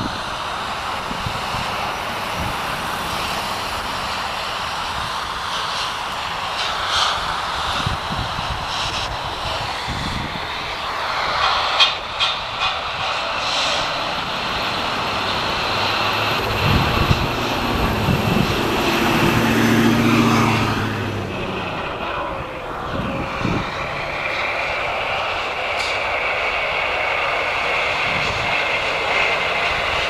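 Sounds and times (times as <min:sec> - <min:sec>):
jet engines whining: 0:00.0 - 0:30.0.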